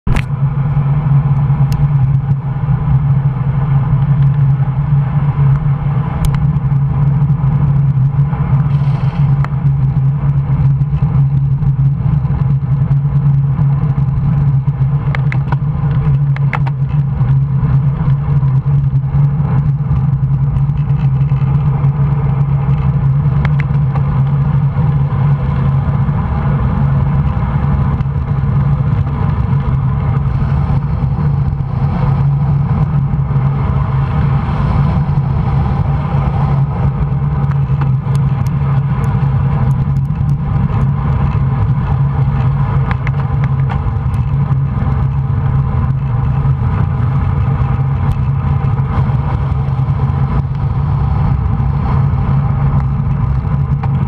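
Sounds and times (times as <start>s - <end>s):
road vibration rumble: 0.0s - 54.0s
wind buffeting: 0.0s - 54.0s.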